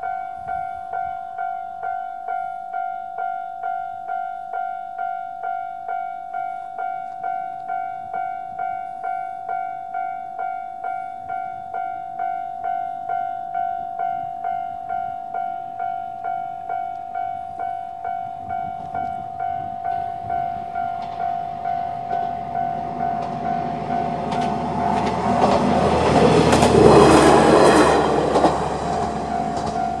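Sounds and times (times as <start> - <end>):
level crossing warning bell: 0.0 - 30.0.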